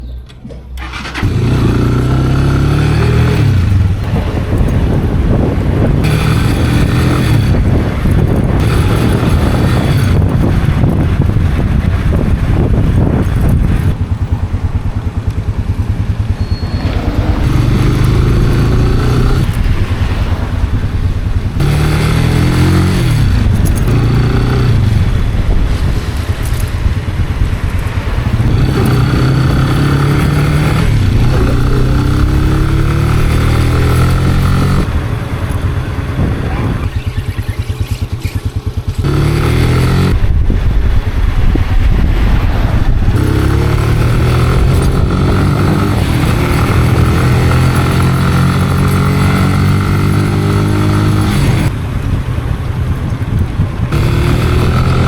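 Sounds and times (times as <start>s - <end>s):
wind noise on microphone: 0.0s - 55.0s
motorcycle engine revving: 0.8s - 55.0s.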